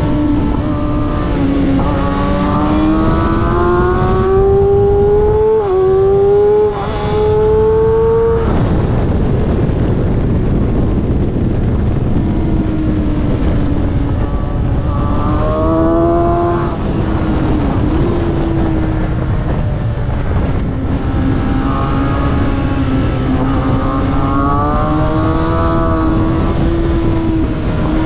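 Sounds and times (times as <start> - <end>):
motorcycle engine accelerating: 0.0 - 28.0
wind rush: 0.0 - 28.0.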